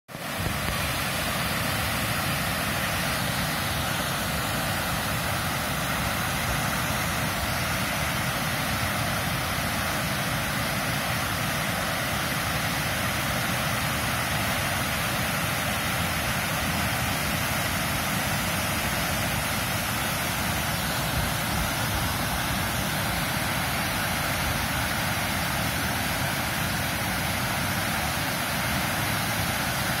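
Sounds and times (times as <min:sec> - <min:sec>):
floodwater rushing and churning: 0:00.1 - 0:30.0.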